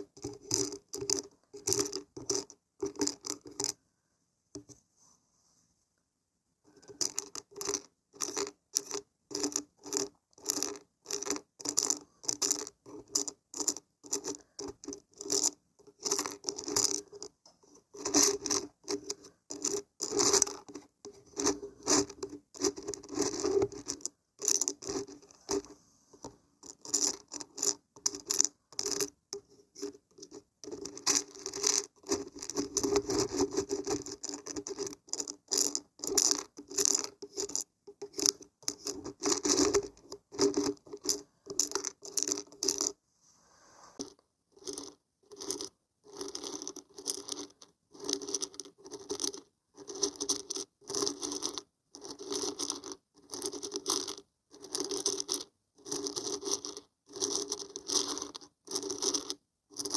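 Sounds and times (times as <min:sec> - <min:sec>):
dried beans rattling and scraping: 0:00.0 - 0:03.8, 0:06.7 - 0:43.0, 0:43.8 - 0:59.9.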